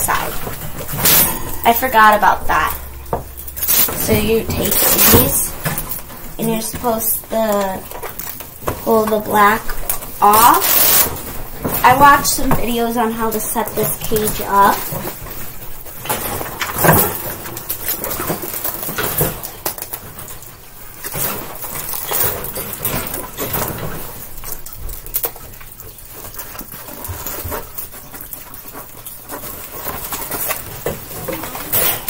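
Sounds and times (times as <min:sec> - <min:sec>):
wire cage panels rattling: 0:00.0 - 0:08.8, 0:13.7 - 0:32.0.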